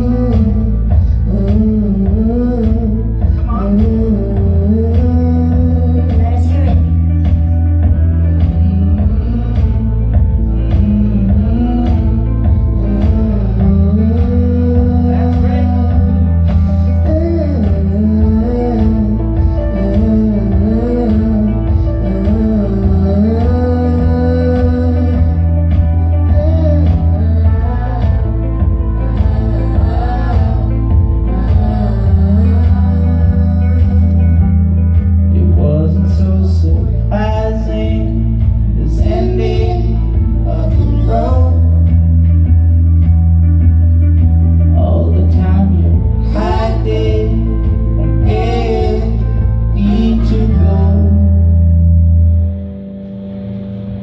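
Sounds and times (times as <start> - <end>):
woman singing: 0.0 - 35.2, 37.7 - 42.1, 45.3 - 51.6
guitar: 0.0 - 54.0
keyboard with sustained bass notes: 0.0 - 54.0.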